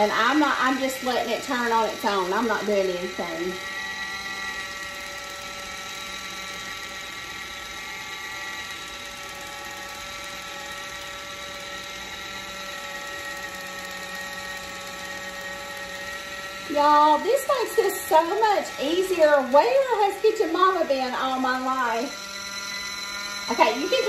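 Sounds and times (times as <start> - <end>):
electric can opener whine: 0.0 - 24.0.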